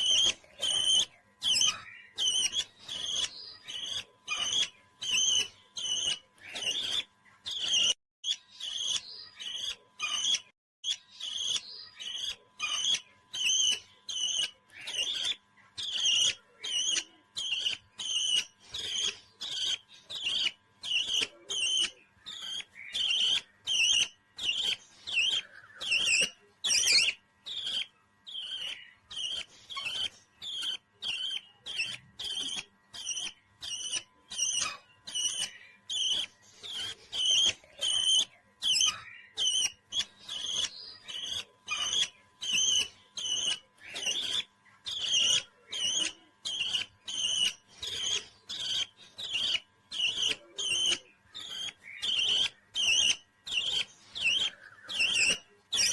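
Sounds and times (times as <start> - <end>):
parrot chirping: 0.0 - 55.9.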